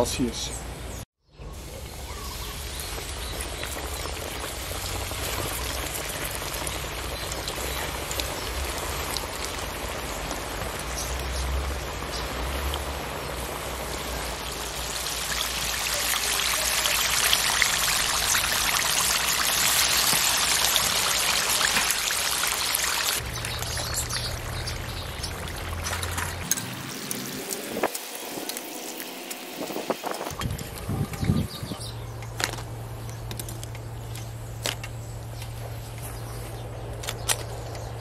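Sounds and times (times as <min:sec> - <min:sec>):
chicken deep-frying in hot oil: 0:01.4 - 0:32.9.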